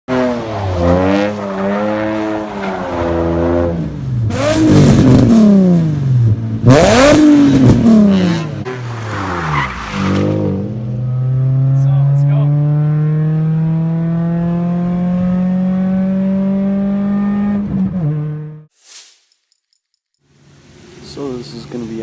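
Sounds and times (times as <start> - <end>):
car engine idling and revving: 0.1 - 18.7.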